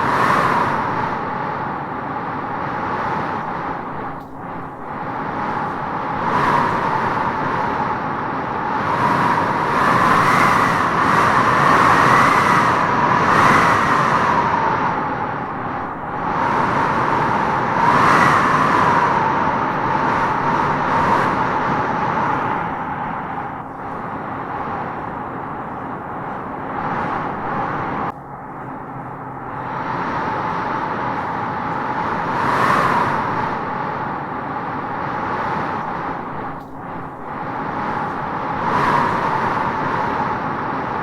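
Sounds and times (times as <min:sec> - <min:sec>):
wind howling through trees: 0:00.0 - 0:41.0.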